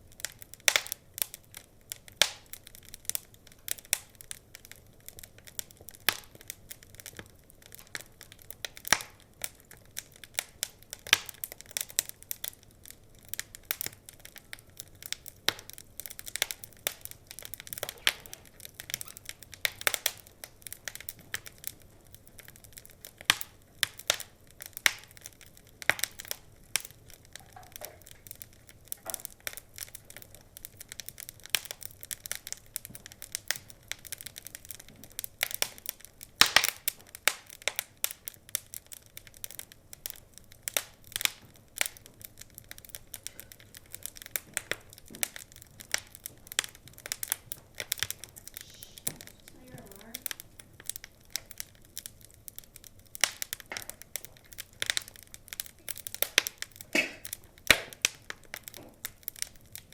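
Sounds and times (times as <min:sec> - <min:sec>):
low steady hiss: 0:00.0 - 0:59.9
wood fire crackling: 0:00.0 - 0:59.9.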